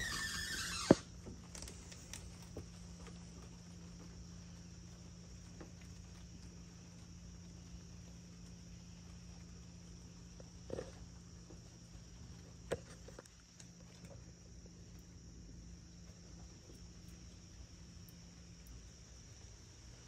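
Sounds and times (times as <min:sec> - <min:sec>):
insects droning: 0:00.0 - 0:20.0
low steady hum: 0:00.0 - 0:20.0.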